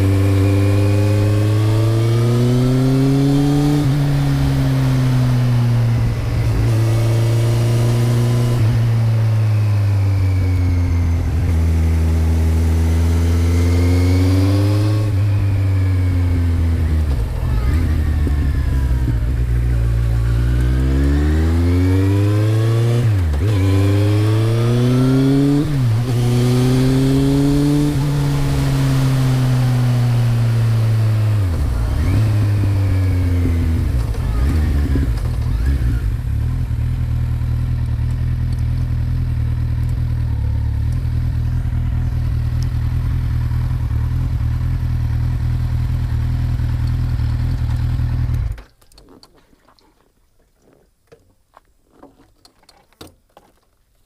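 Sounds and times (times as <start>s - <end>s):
motorcycle engine running: 0.0s - 48.6s.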